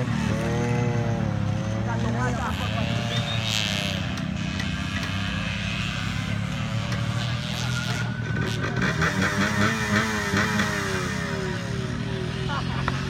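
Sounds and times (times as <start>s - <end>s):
faint voices: 0.0s - 13.0s
vehicle engine running: 0.0s - 13.0s.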